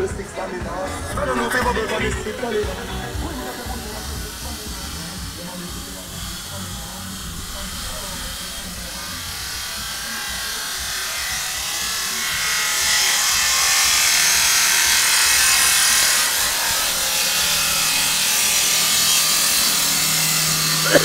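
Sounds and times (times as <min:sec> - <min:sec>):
metal cutting hiss: 0:00.8 - 0:21.0.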